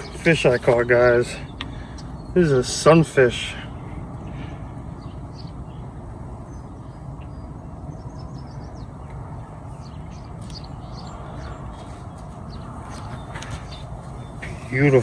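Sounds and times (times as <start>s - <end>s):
small birds chirping: 0.0s - 15.0s
wind buffeting microphone: 0.0s - 15.0s.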